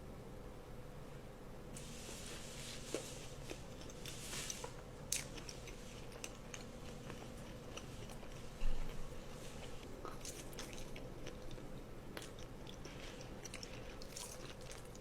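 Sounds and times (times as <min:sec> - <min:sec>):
food crunching: 0:02.8 - 0:15.0
biting and chewing: 0:02.9 - 0:15.0.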